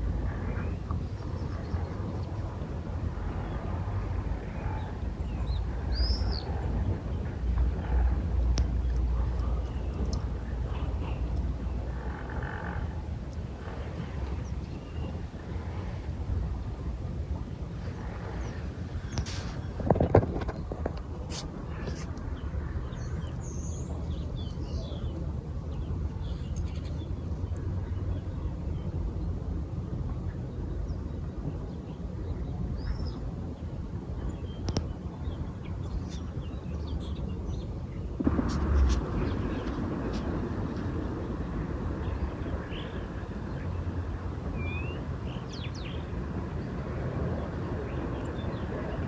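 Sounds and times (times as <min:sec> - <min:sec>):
low rumble of wind: 0:00.0 - 0:49.0.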